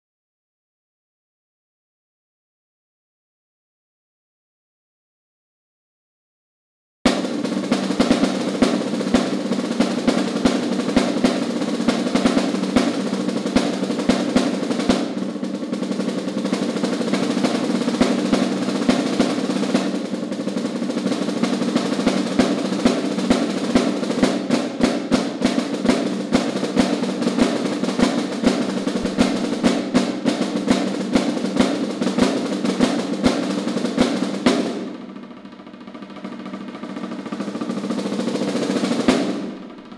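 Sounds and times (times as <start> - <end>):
snare drum rolls: 7.1 - 39.9.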